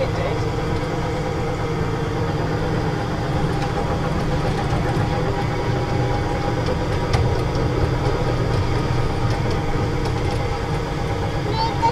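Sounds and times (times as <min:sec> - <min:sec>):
ride car mechanical hum: 0:00.0 - 0:11.9.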